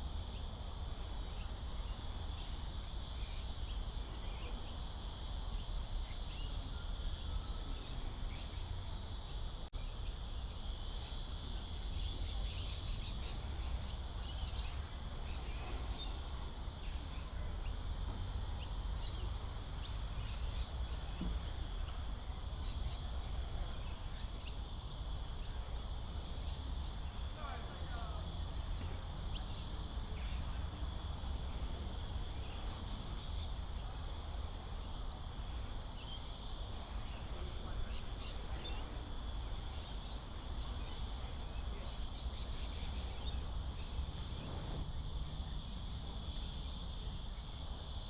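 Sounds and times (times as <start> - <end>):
crickets trilling: 0.0 - 48.0.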